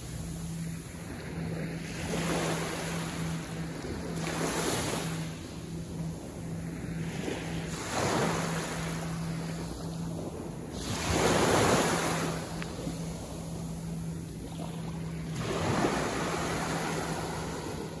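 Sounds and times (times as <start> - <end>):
waves breaking on sandy shore: 0.0 - 18.0.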